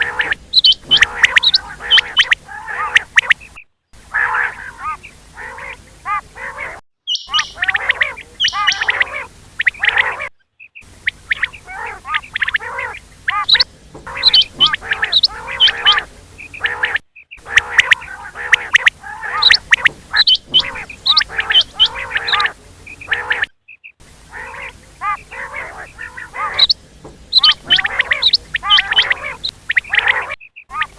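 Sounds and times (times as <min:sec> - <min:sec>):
quail calling: 0:00.0 - 0:30.9.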